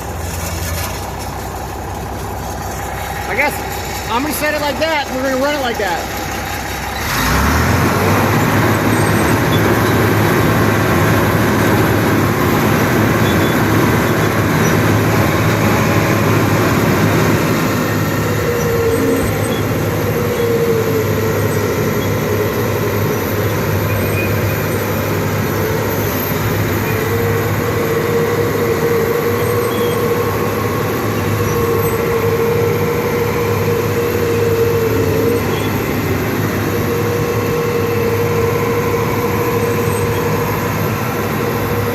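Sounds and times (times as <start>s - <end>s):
bulldozer engine running: 0.0s - 41.9s
high-pitched whine: 0.0s - 41.9s.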